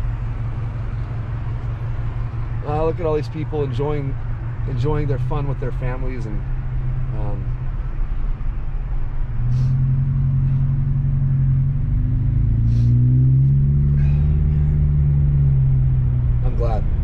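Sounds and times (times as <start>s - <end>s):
car engine drone from cabin: 0.0s - 17.0s.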